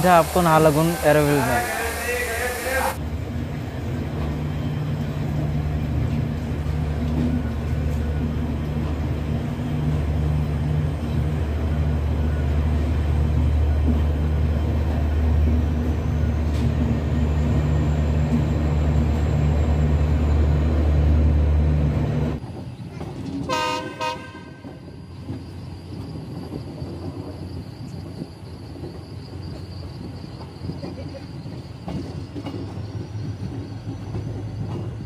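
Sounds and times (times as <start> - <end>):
train low machinery drone: 0.0 - 35.0.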